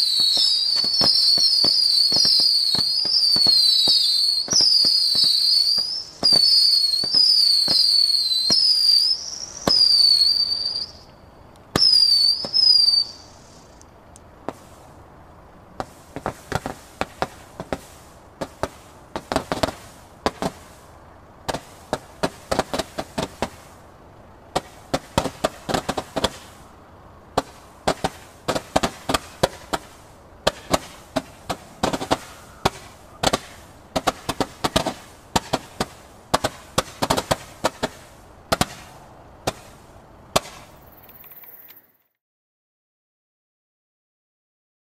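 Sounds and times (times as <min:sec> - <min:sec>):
firework cracks: 0:00.0 - 0:11.0, 0:11.6 - 0:14.9, 0:15.8 - 0:23.8, 0:24.5 - 0:26.7, 0:27.3 - 0:41.8
firework whistles: 0:00.0 - 0:13.8, 0:14.5 - 0:14.9, 0:15.8 - 0:23.8, 0:24.5 - 0:26.7, 0:27.4 - 0:42.0
volleys of sharp firework pops: 0:00.0 - 0:15.0, 0:15.8 - 0:23.8, 0:24.5 - 0:26.7, 0:27.3 - 0:41.8.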